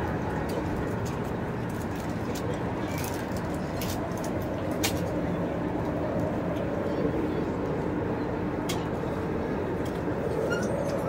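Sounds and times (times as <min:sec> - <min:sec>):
stadium crowd murmur: 0:00.0 - 0:11.0.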